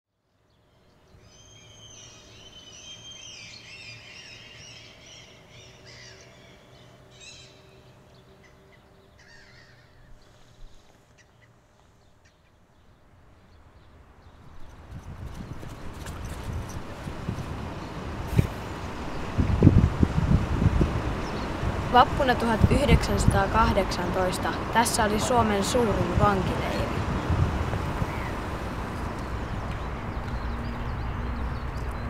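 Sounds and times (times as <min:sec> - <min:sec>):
birds chirping and trilling: 0:00.4 - 0:19.9, 0:20.6 - 0:32.0.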